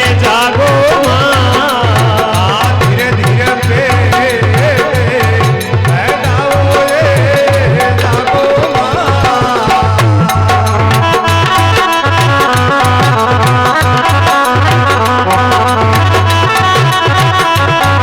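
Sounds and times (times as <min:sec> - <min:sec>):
bending folk melody: 0:00.0 - 0:18.0
hand drum beat: 0:00.0 - 0:18.0.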